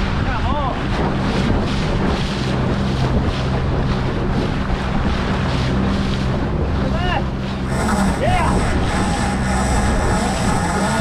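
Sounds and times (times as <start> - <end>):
low engine hum: 0.0 - 11.0
water washing against hull: 0.0 - 11.0
wind buffeting microphone: 0.0 - 11.0.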